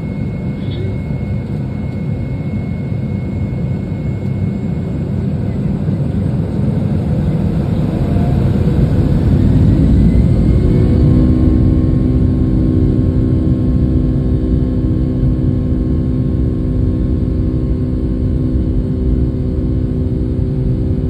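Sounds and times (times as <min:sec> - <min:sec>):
jet engine hum from cabin: 0:00.0 - 0:21.0.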